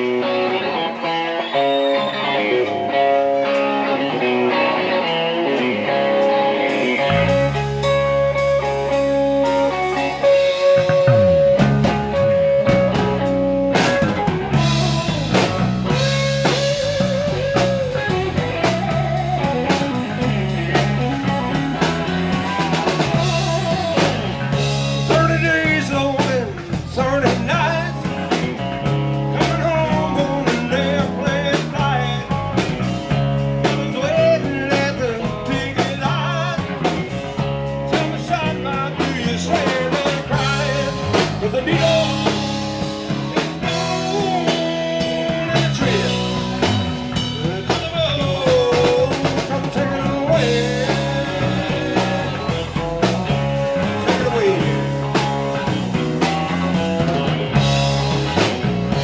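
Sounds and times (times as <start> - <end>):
bass guitar figure: 0.0 - 59.0
electric guitar lines: 0.0 - 59.0
drum kit beat: 4.5 - 59.0.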